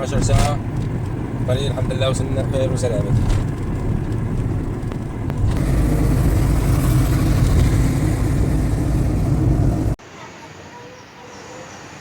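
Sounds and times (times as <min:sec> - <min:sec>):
car engine and road rumble: 0:00.0 - 0:10.0.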